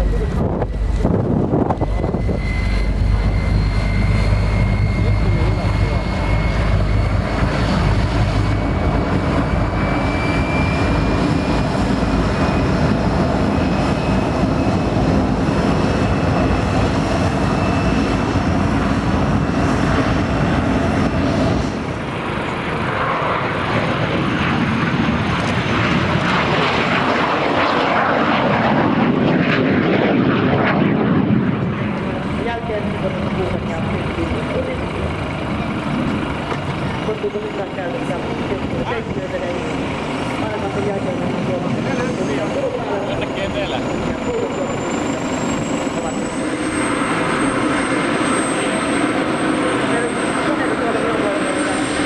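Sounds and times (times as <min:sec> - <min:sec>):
jet engine roar: 0:00.0 - 0:52.0.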